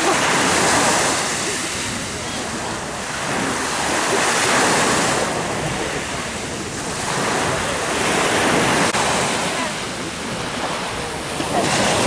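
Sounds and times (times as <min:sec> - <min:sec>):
sea waves washing onto shore: 0:00.0 - 0:12.0.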